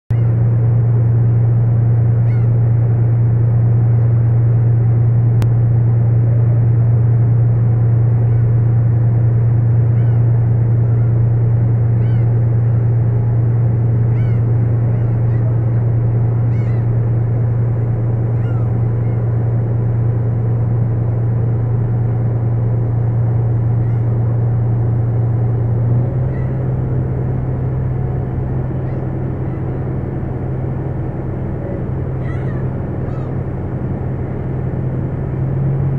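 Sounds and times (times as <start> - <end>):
gulls calling: 0.1 - 0.6, 2.0 - 2.9, 8.0 - 35.9
boat engine droning: 0.1 - 35.9.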